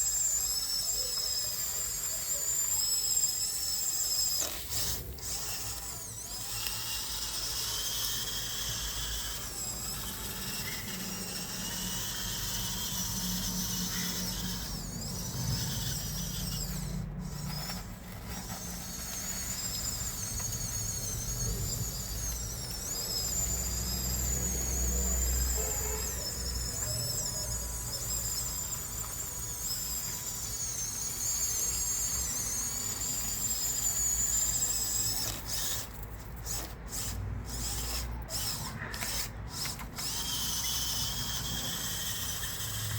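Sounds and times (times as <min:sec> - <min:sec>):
electric motors whining: 0:00.0 - 0:42.9.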